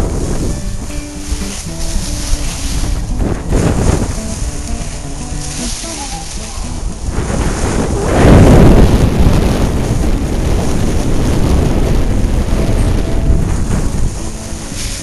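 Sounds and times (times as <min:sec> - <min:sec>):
skis scraping on snow: 0:00.0 - 0:15.0
wind rushing over microphone: 0:00.0 - 0:15.0.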